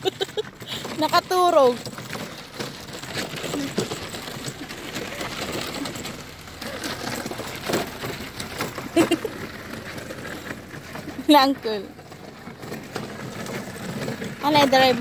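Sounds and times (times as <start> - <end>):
plastic wheels rolling on gravel: 0.0 - 15.0.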